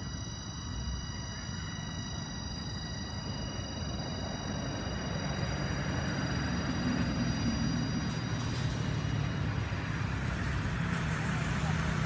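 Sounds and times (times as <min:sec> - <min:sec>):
motor traffic rumble: 0:00.0 - 0:12.0.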